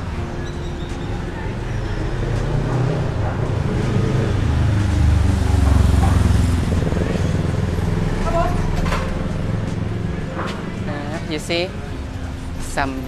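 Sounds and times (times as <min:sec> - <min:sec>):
vehicle engine rumble passing: 0:00.0 - 0:12.6.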